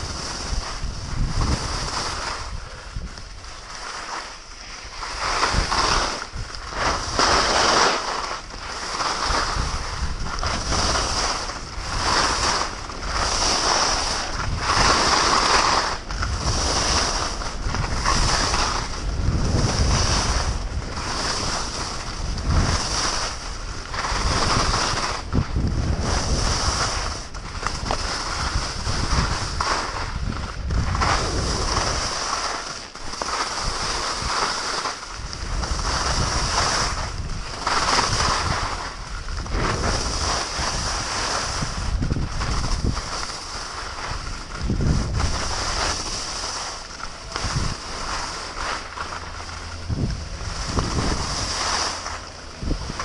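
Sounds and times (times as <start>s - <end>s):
skis scraping over snow: 0.0s - 53.0s
wind rushing over microphone: 0.0s - 53.0s.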